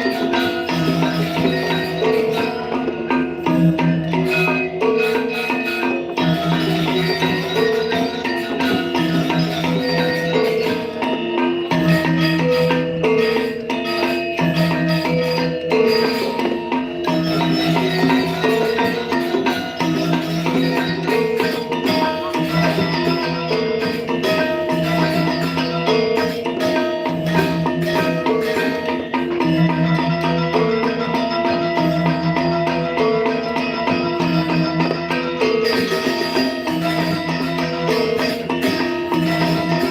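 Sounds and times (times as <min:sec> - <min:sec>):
gamelan music with metallophones: 0:00.0 - 0:39.9.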